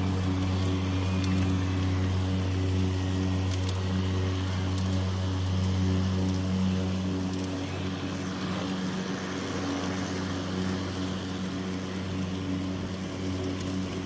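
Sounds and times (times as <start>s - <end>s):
lawn mower running: 0.0s - 14.0s.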